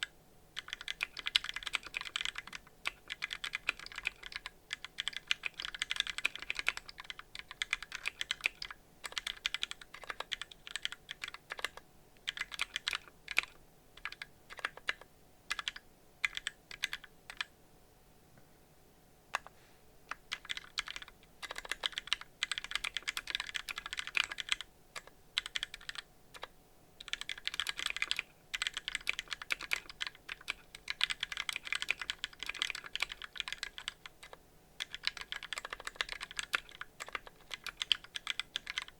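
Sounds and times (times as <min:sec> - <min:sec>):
fast typing on mechanical keyboard: 0:00.6 - 0:17.5, 0:20.1 - 0:38.9.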